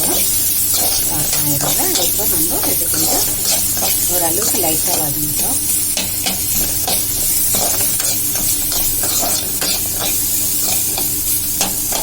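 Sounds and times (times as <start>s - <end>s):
spatula scraping pan: 0.0s - 12.0s
vegetables sizzling in hot oil: 0.0s - 12.0s.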